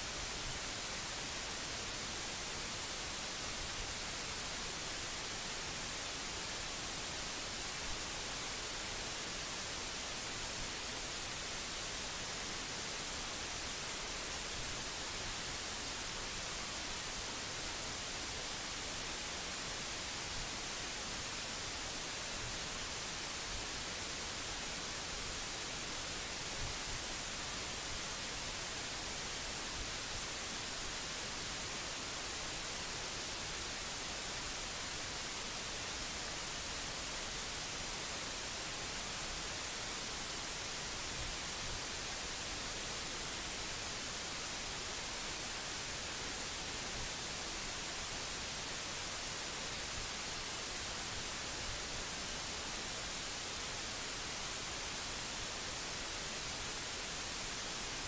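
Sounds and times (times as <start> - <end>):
electronic recording hiss: 0.0 - 58.0.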